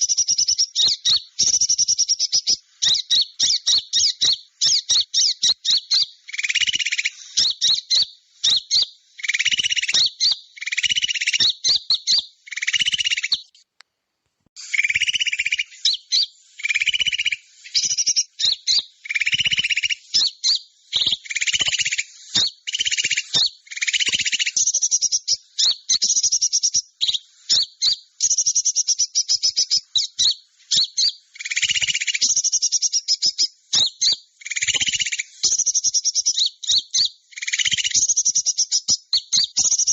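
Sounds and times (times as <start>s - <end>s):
high-pitched bird chirping and trills: 0.0s - 13.6s, 14.6s - 39.9s.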